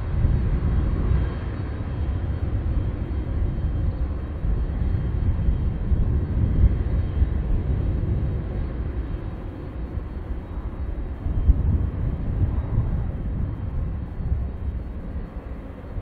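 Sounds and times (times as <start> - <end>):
jet engines running: 0.0 - 16.0
wind rumble on microphone: 0.0 - 16.0.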